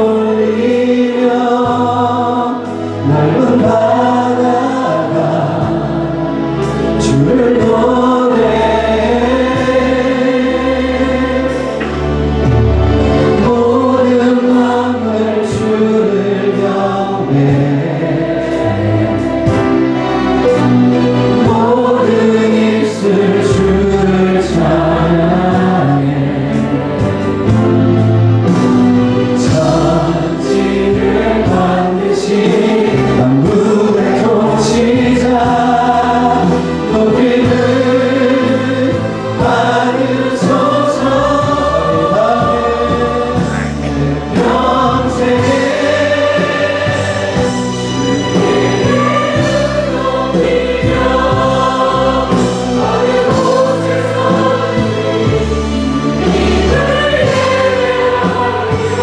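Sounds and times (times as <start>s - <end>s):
band accompaniment: 0.0s - 59.0s
group singing worship song: 0.0s - 59.0s.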